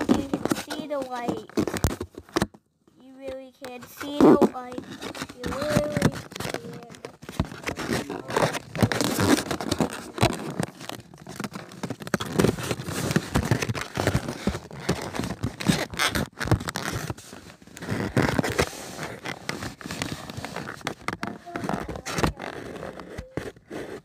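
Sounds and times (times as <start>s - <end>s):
hands handling a box and packaging: 0.0s - 24.0s.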